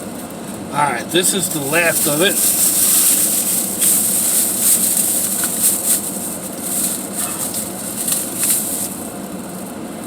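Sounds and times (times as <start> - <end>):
steady hiss: 0.8 - 9.6
shopping bags rustling: 1.2 - 9.6.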